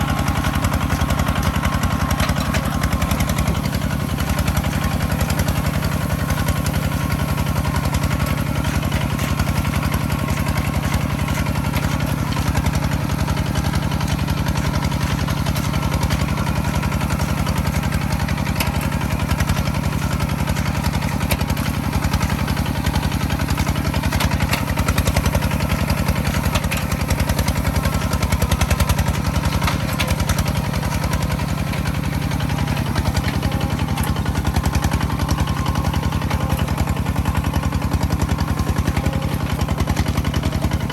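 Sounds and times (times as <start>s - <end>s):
farm machine engine running: 0.0s - 40.9s.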